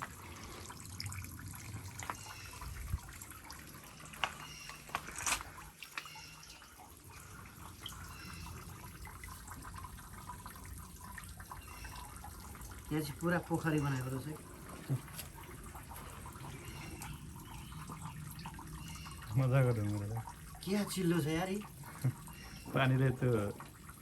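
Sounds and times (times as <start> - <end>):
sharp water drips: 0.0 - 24.0
water trickling over rock: 0.0 - 24.0.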